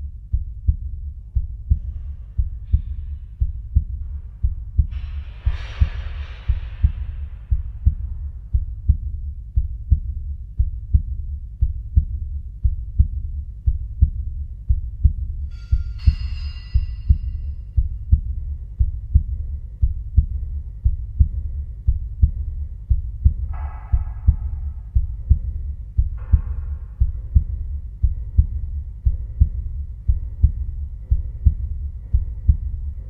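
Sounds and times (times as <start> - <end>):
heartbeat double thumps: 0.0 - 33.0.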